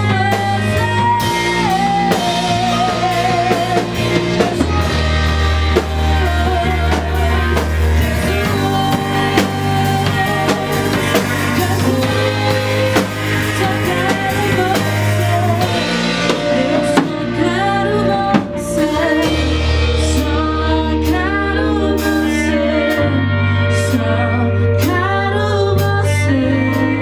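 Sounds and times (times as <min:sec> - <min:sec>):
live band playing: 0:00.0 - 0:27.0
person singing: 0:00.0 - 0:27.0.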